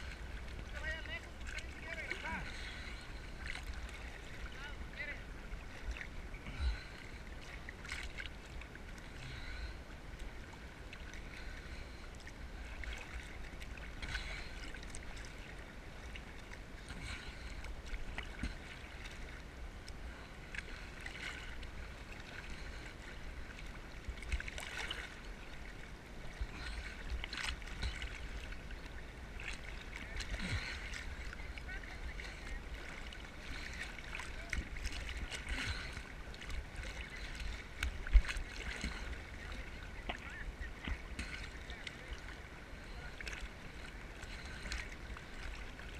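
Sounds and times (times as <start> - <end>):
steady low rumble: 0.0 - 45.9
water splashes: 0.0 - 45.9.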